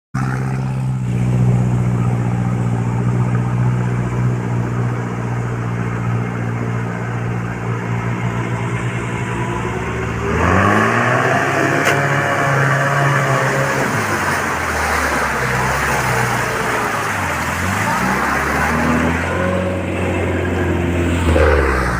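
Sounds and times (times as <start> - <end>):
engine revving: 0.2 - 21.9
off-road vehicle engine idling: 0.2 - 21.9.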